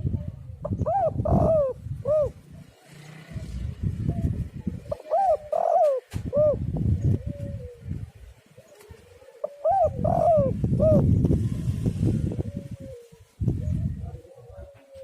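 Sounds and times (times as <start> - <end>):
dove cooing: 0.3 - 11.2, 12.2 - 15.0.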